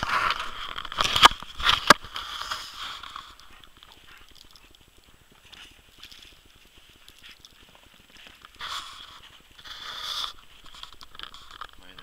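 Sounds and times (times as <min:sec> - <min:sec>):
fine crackling: 0:00.0 - 0:12.0
footsteps crunching in snow: 0:00.0 - 0:12.0.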